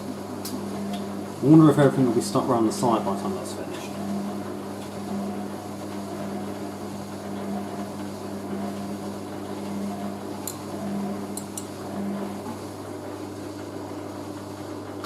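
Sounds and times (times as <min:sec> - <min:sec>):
washing machine spinning hum: 0:00.0 - 0:15.0.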